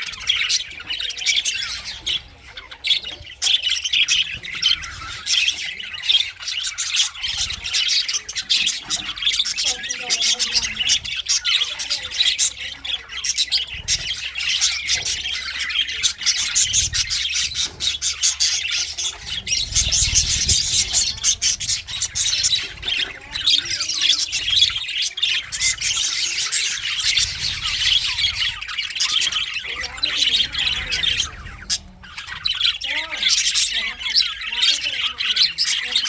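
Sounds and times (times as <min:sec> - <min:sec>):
budgies chattering and chirping: 0:00.0 - 0:36.0.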